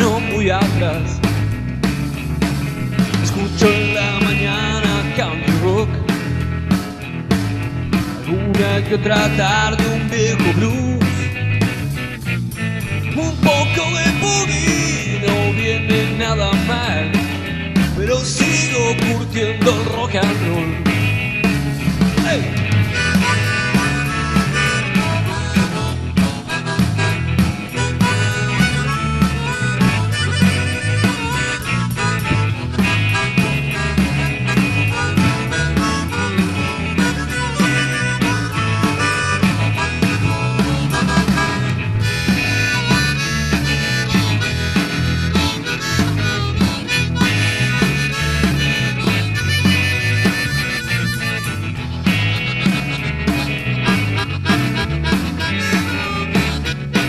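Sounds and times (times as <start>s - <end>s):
bass and guitar: 0.0s - 57.0s
drums steady beat: 0.0s - 57.0s
harmonica playing: 7.1s - 57.0s.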